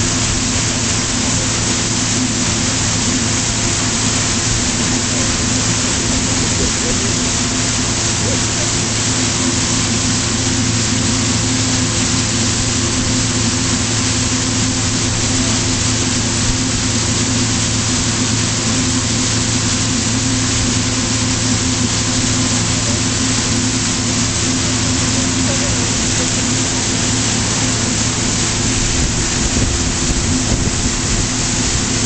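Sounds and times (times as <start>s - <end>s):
boat engine at full throttle: 0.0s - 32.0s
rush of wind and water: 0.0s - 32.0s.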